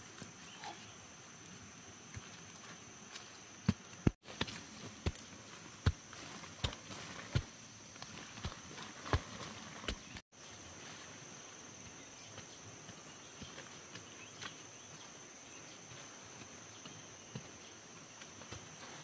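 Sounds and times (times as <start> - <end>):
faint outdoor hiss: 0.0 - 19.0
insects trilling: 0.0 - 19.0.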